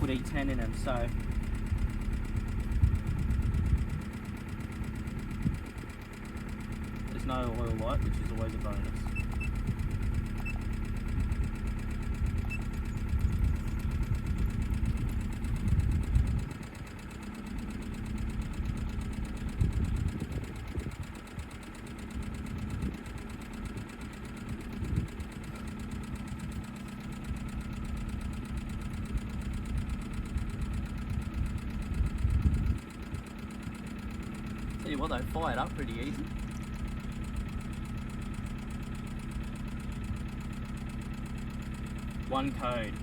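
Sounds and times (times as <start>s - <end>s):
car engine idling unevenly: 0.0s - 43.0s.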